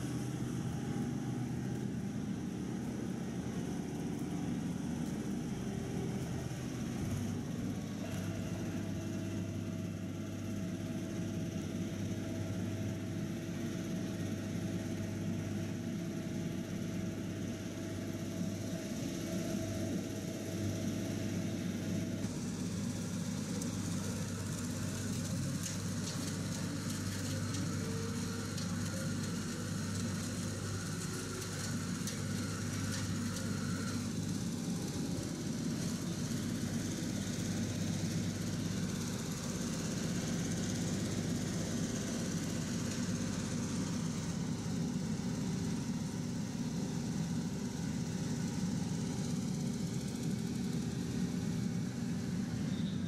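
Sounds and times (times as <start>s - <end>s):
machinery engines droning: 0.0s - 53.0s.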